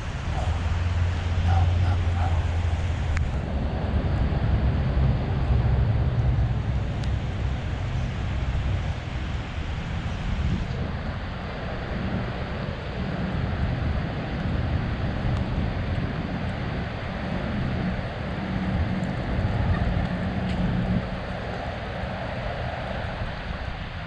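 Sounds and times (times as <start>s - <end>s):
traffic rumble: 0.0s - 24.0s
wind buffeting microphone: 0.0s - 24.0s.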